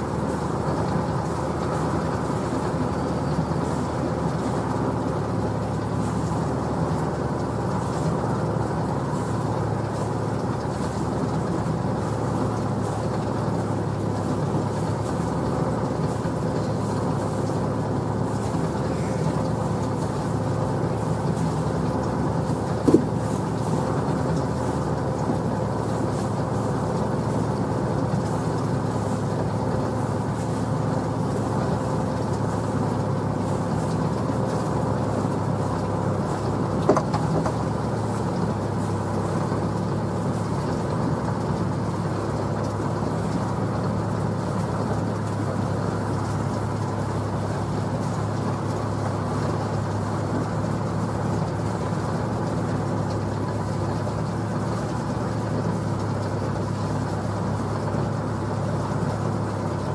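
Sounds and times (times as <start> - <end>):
boat motor running steadily: 0.0 - 59.9.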